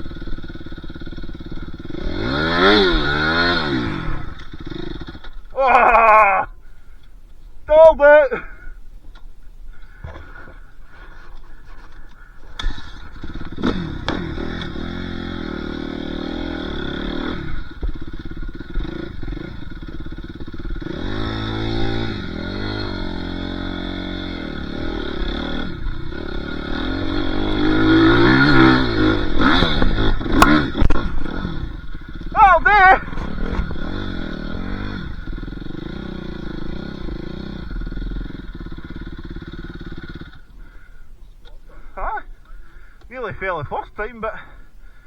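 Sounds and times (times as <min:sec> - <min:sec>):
dirt bike engine revving: 0:00.0 - 0:06.4, 0:11.9 - 0:45.0.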